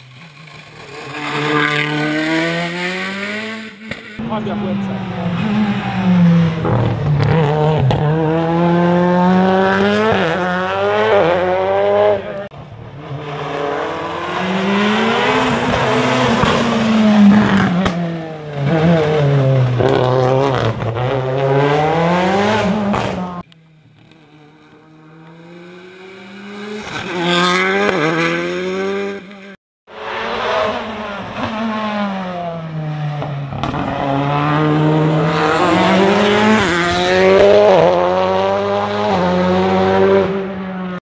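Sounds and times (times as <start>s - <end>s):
rally car engine at full throttle: 0.0s - 41.0s.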